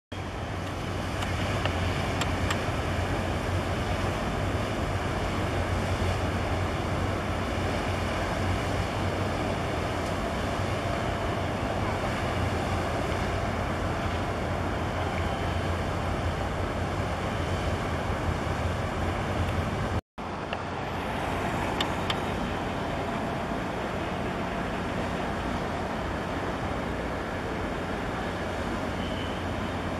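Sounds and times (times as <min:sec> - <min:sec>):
water noise: 0:00.1 - 0:29.9
wind: 0:00.1 - 0:29.9
boat engine drone: 0:00.2 - 0:29.9.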